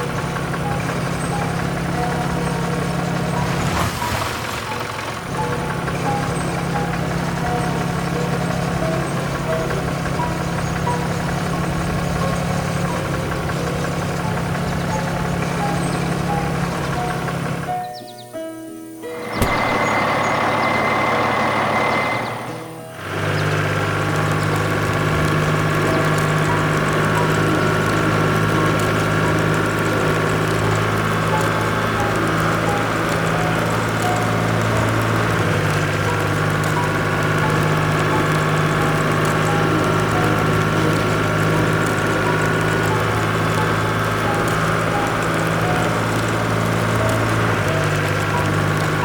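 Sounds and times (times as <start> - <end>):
farm vehicle engine idling: 0.0 - 18.4, 19.0 - 49.0.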